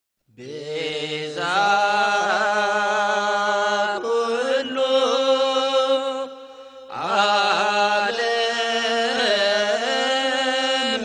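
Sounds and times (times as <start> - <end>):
chanted hymn with held notes: 0.4 - 11.0.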